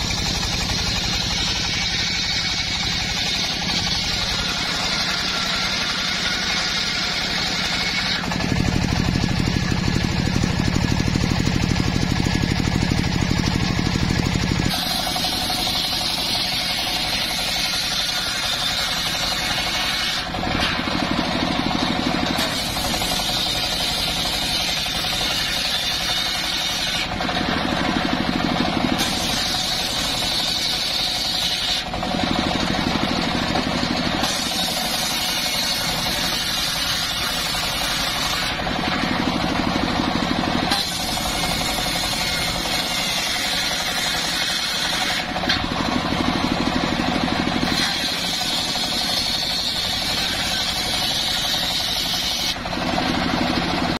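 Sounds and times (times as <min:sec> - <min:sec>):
circular saw cutting wood: 0:00.0 - 0:53.9
sawmill engine running: 0:00.0 - 0:53.9.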